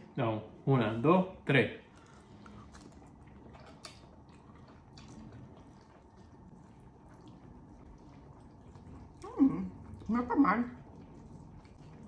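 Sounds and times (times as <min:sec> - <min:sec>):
soft wet chewing: 0:00.9 - 0:12.0.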